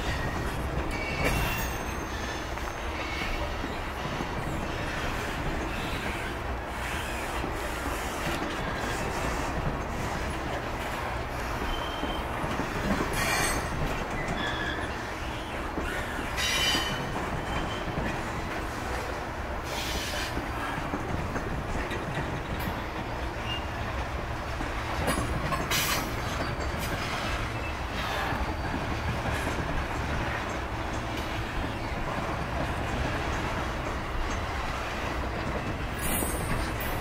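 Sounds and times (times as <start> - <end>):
wheel screeching on rail: 0.0 - 24.0, 24.8 - 37.0
freight train wheels clacking: 0.0 - 37.0
low train rumble: 0.0 - 37.0.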